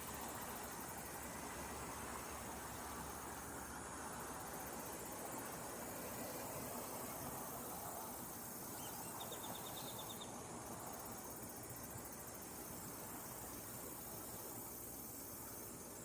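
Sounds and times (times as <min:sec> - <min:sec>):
insects chirping: 0:00.0 - 0:16.0
steady outdoor hiss: 0:00.0 - 0:16.0.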